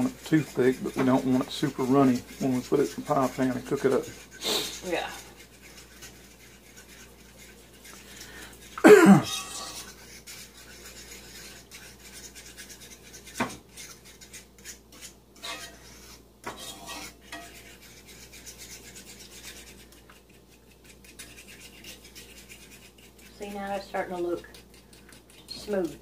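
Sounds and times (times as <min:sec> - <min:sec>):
utensil scraping a pan: 0:00.0 - 0:26.0.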